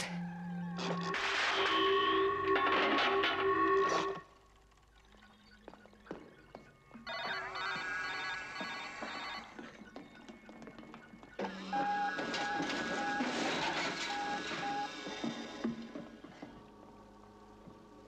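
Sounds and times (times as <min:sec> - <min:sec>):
electronic machine whine: 0:00.0 - 0:18.0.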